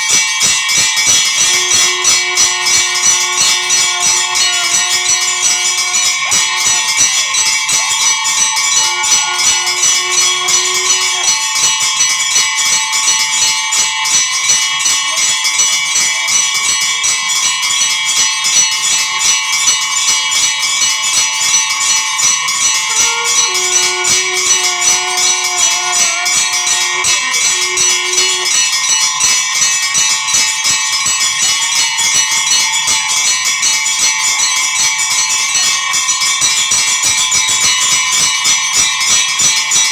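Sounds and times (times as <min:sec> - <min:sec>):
temple bells clanging: 0:00.0 - 0:39.9.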